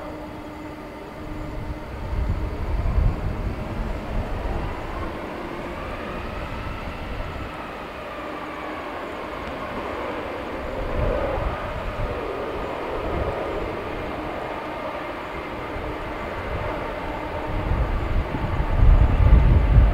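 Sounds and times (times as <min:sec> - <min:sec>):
jet engines whining: 0:00.0 - 0:19.9.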